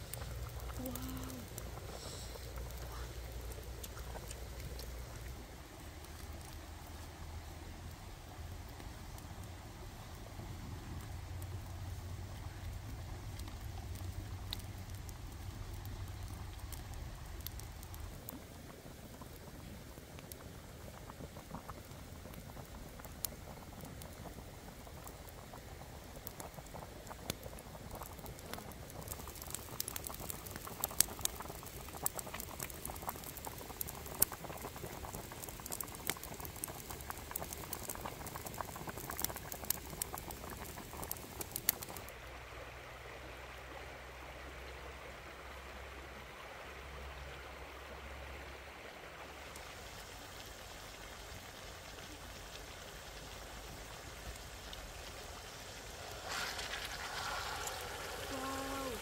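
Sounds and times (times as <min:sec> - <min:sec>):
curry bubbling and sizzling: 0:00.0 - 0:59.0
steady hush with low hum: 0:00.0 - 0:59.0.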